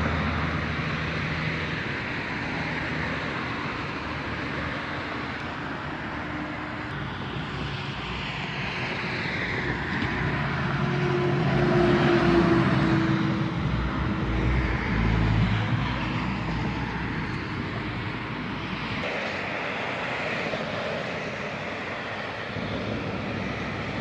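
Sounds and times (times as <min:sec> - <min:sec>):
traffic noise: 0:00.0 - 0:24.0
truck passing by: 0:00.0 - 0:24.0.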